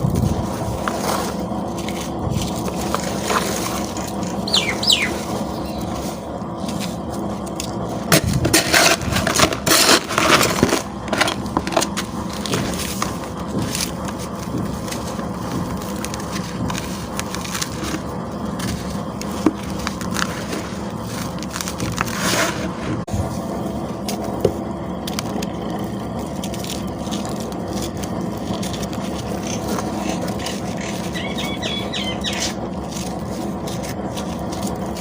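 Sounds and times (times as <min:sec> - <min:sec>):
gritty chunks crunching: 0:00.0 - 0:35.0.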